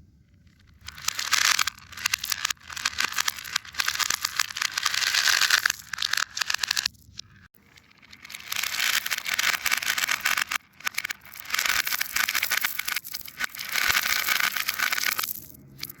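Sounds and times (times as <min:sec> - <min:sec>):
fidget toy scratchy scraping: 0:00.6 - 0:16.0.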